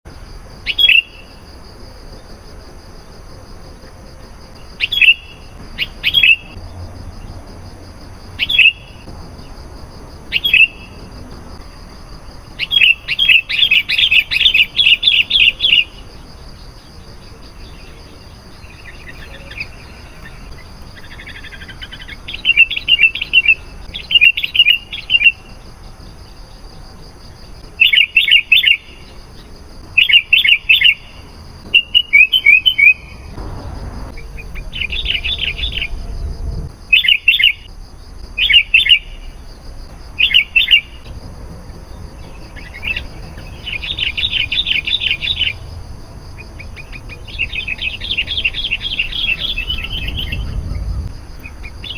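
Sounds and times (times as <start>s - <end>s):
bird chirping: 0.6s - 1.4s, 3.6s - 7.5s, 8.3s - 9.6s, 10.2s - 26.8s, 27.4s - 39.5s, 40.2s - 51.9s.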